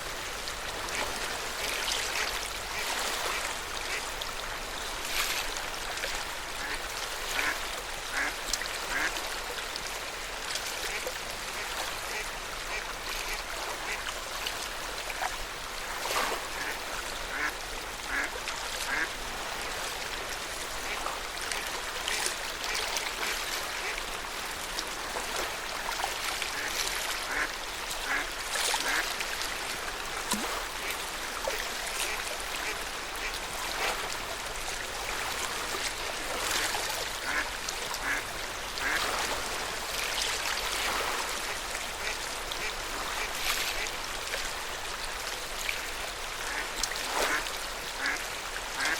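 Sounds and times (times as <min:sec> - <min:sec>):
water lapping at shore: 0:00.0 - 0:48.9.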